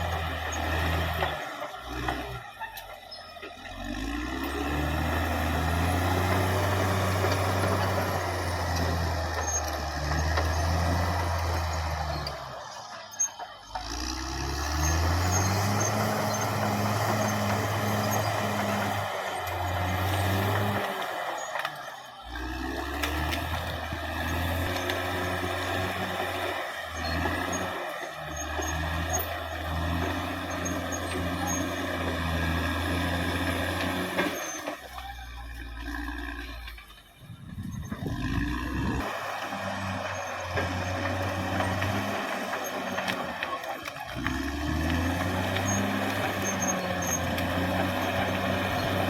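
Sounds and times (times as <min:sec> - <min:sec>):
bulldozer diesel engine under load: 0:00.0 - 0:49.0.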